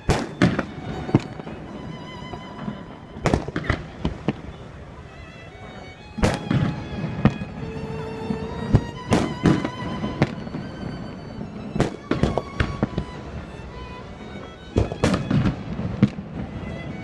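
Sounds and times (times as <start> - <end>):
music playing: 0.0 - 3.5, 4.6 - 15.8
fireworks bangs: 0.0 - 17.0.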